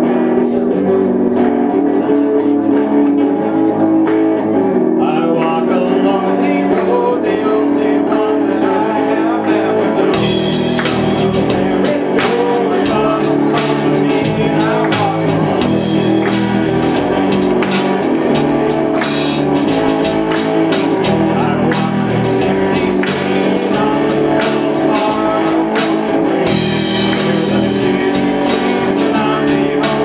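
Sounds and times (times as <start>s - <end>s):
electric guitars: 0.0s - 30.0s
live band playing: 0.0s - 30.0s
person singing: 0.0s - 30.0s.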